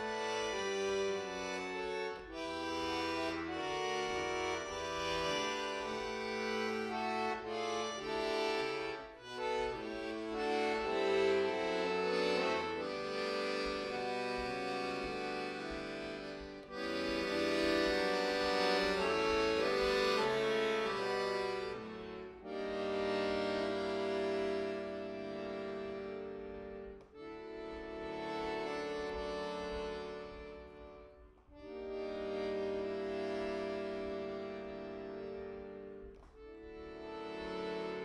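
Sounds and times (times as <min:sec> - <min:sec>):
button accordion playing: 0:00.0 - 0:38.0.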